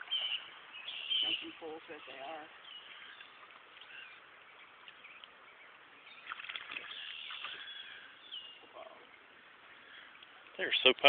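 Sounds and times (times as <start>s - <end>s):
birds chirping: 0.0s - 11.0s
faint river ambience: 0.0s - 11.0s.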